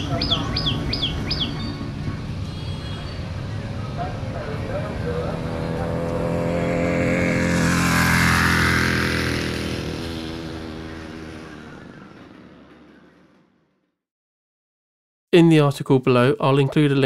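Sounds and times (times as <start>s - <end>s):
moped passing by: 0.0s - 13.9s.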